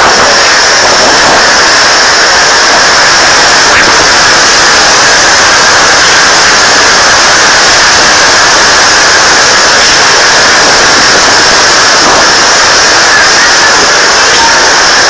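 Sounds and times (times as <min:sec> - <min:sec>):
wind roaring on microphone: 0:00.0 - 0:15.0.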